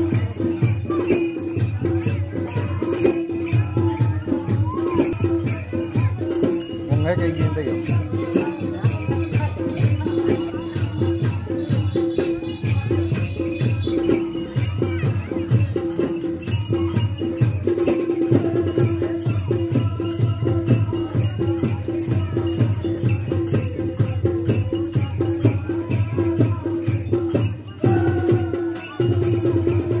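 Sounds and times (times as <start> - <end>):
drums beaten in fast rhythm: 0.0 - 30.0
jingling rattles: 0.0 - 30.0.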